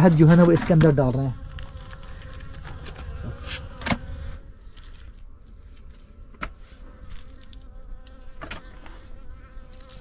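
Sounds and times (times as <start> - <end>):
dry honeycomb knocks and crackles: 0.0 - 10.0.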